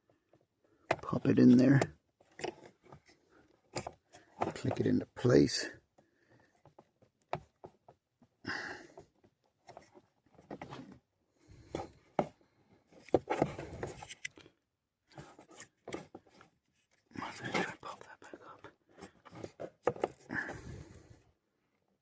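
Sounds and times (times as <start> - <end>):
rubbing and scraping plastic parts: 0.0 - 21.2.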